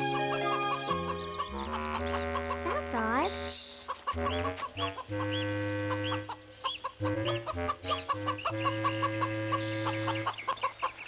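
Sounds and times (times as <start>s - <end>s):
soft sustained music notes: 0.0s - 10.5s
cartoon bird chirping: 0.4s - 10.8s.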